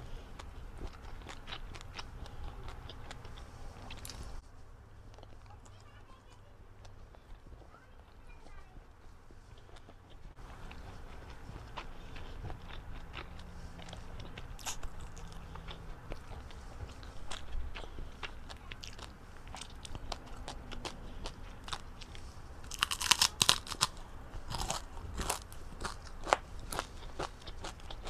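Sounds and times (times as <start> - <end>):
crunching while eating: 0.0 - 4.4, 5.0 - 28.0.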